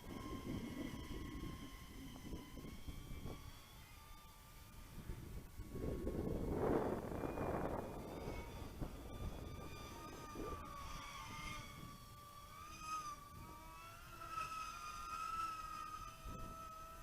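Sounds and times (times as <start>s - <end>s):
model plane electric motor whine: 0.0s - 17.0s
wind rumble on microphone: 0.0s - 17.0s.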